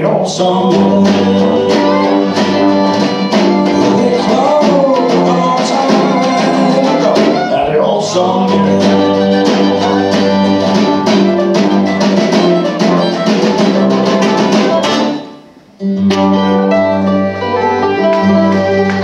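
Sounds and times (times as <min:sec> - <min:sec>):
string band playing: 0:00.0 - 0:19.0
tuba bass notes: 0:00.0 - 0:19.0.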